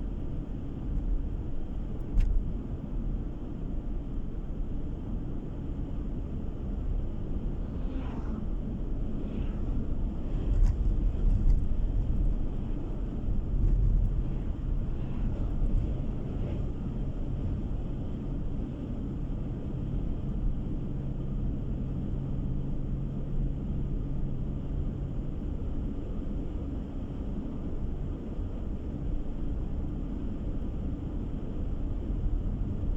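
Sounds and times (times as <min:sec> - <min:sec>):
car engine and tyres rumbling: 0:00.0 - 0:32.9.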